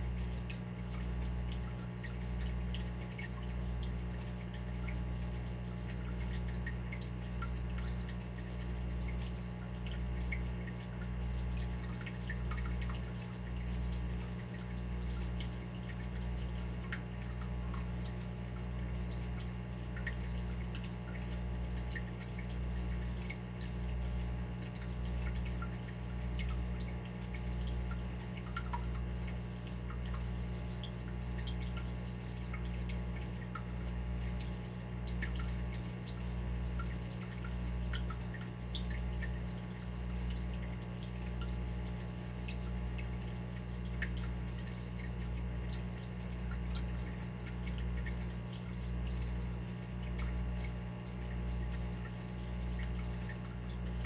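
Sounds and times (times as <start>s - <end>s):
low rumble of water: 0.0s - 54.0s
water dripping plinks: 0.4s - 54.0s.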